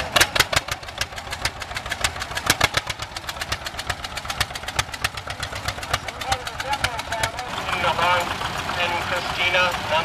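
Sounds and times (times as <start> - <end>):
tractor engine popping: 0.0 - 10.0.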